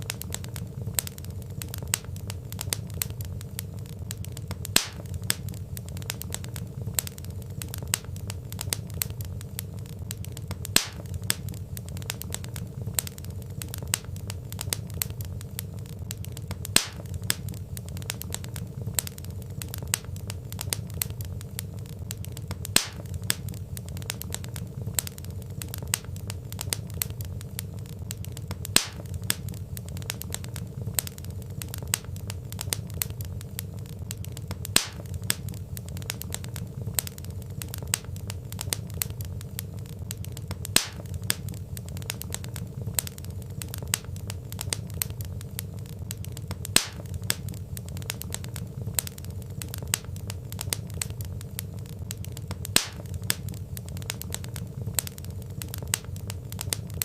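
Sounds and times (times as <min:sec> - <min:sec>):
sharp loud fire crack: 0:00.0 - 0:57.0
wood fire crackling: 0:00.0 - 0:57.0.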